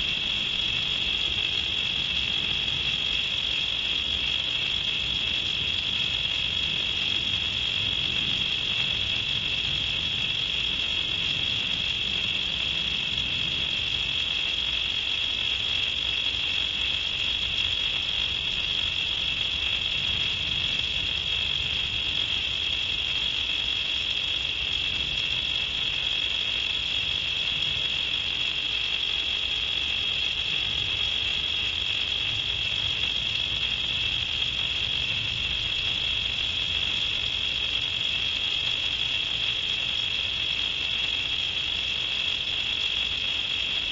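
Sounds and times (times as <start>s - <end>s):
crickets trilling: 0.0s - 43.9s.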